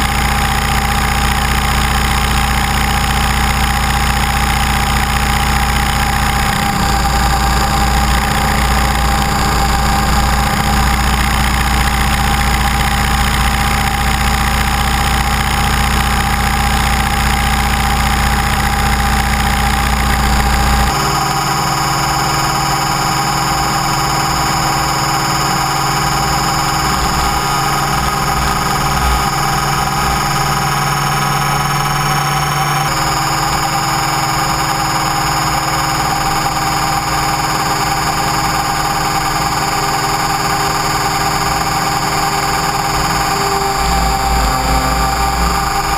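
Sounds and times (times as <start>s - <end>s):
rc helicopter motor whine: 0.0s - 45.9s
rotor buzz: 0.0s - 45.9s.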